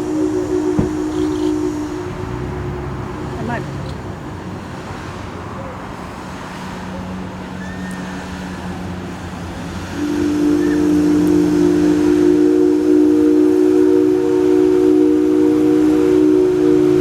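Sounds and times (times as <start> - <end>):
steam locomotive chime whistle: 0.0 - 3.9, 6.2 - 17.0.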